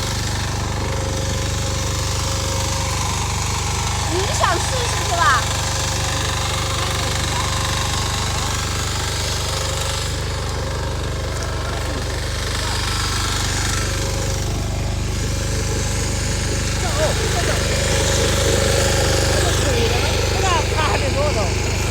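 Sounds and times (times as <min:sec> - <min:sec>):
tractor engine droning: 0:00.0 - 0:21.9.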